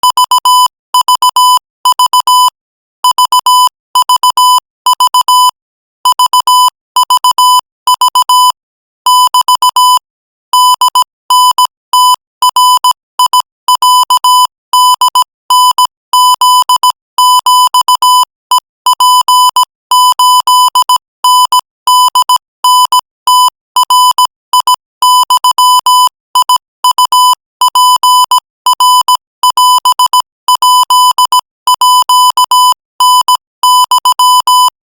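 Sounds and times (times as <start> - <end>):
morse code tone: 0.0 - 34.8.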